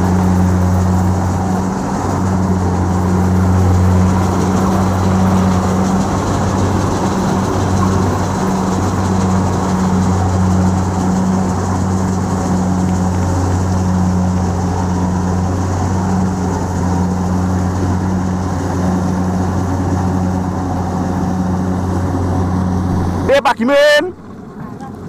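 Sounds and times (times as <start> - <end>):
combine harvester diesel engine: 0.0 - 25.0.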